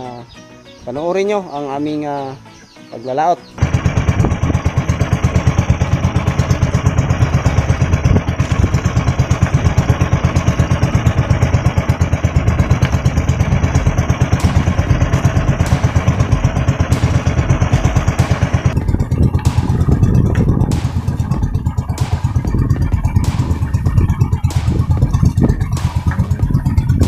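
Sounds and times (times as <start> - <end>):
small boat engine pulsing: 3.6 - 27.0.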